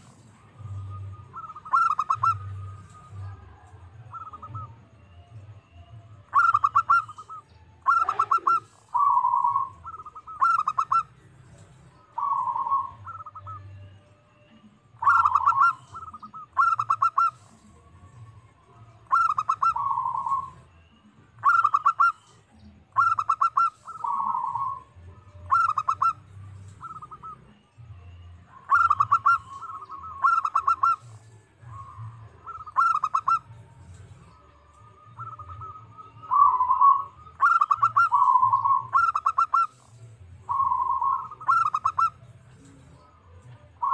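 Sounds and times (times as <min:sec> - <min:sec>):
dove cooing: 0:00.0 - 0:05.5, 0:06.1 - 0:43.9.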